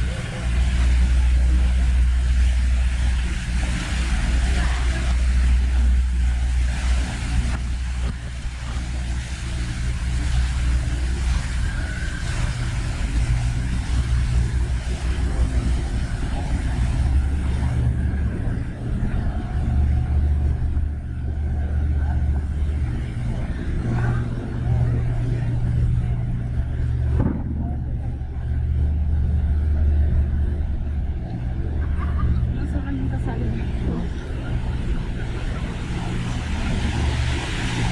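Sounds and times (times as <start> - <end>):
low engine rumble: 0.0 - 37.9.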